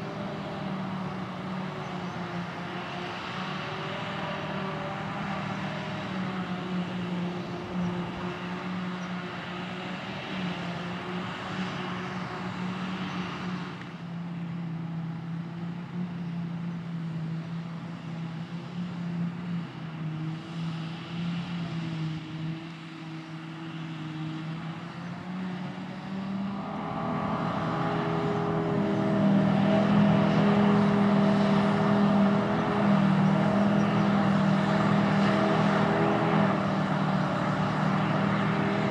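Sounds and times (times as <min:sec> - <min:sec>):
diesel engines droning: 0:00.0 - 0:38.9.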